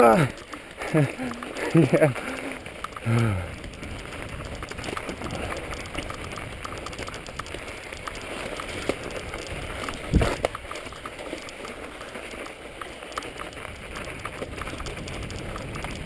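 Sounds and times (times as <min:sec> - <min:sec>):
bike rattling and clicking: 0:00.0 - 0:16.0
bike tyres crunching snow: 0:00.0 - 0:16.0.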